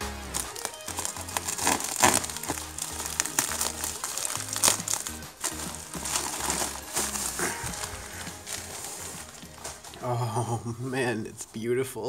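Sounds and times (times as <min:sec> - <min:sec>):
background music with bass line: 0:00.0 - 0:10.7
plastic mailer crinkling: 0:00.2 - 0:10.1.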